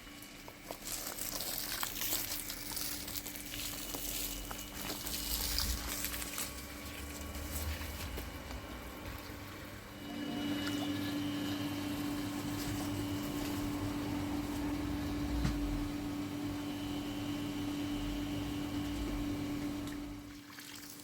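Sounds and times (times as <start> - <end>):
machine hum: 0.0 - 20.4.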